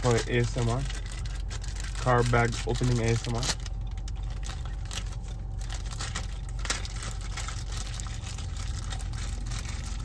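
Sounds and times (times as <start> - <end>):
plastic bag crinkling: 0.0 - 10.0
steady low hum: 0.0 - 10.0.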